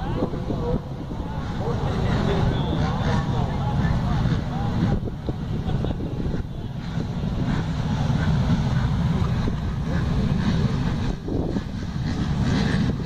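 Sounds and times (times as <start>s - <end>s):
distant motorbike engines revving: 0.0s - 13.0s
wind rumble on microphone: 0.0s - 13.0s.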